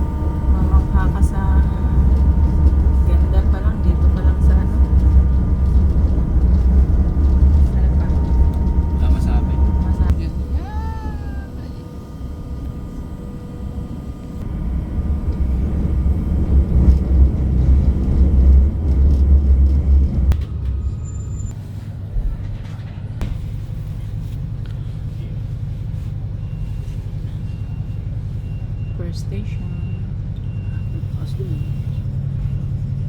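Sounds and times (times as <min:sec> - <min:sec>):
train rumbling inside carriage: 0:00.0 - 0:33.0.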